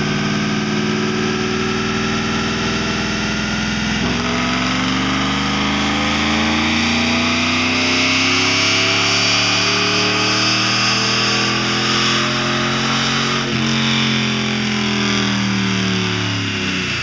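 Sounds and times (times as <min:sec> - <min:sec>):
engine revving at full throttle: 0:00.0 - 0:17.0.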